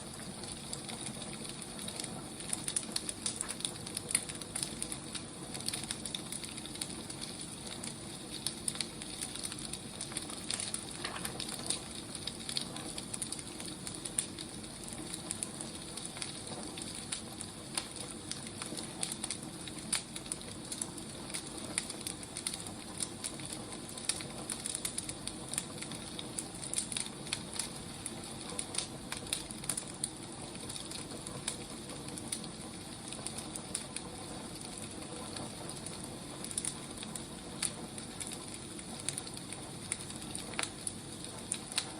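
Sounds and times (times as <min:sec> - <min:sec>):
firewood crackling and popping: 0:00.0 - 0:41.9
soft fire hiss: 0:00.0 - 0:41.9.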